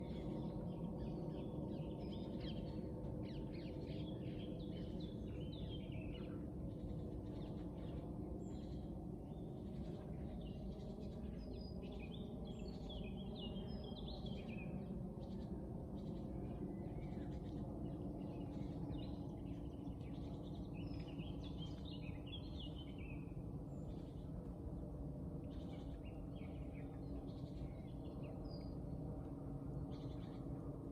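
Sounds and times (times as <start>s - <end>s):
low background hum: 0.0s - 30.9s
songbirds singing and chirping: 0.0s - 30.9s.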